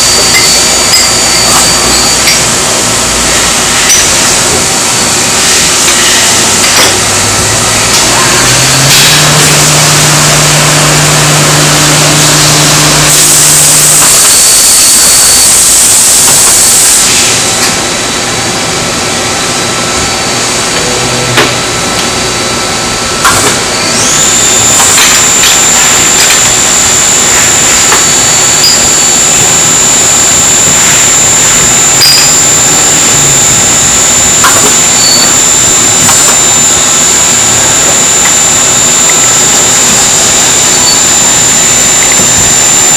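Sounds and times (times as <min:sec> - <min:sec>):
high-pitched whine: 0:00.0 - 0:42.9
lathe whirring and hissing: 0:00.0 - 0:42.9.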